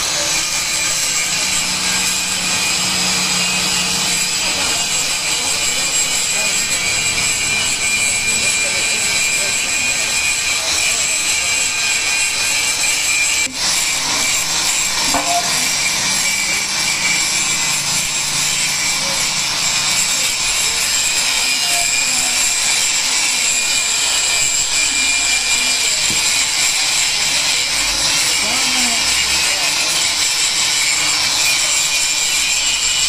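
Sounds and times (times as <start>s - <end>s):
angle grinder grinding metal: 0.0s - 33.0s.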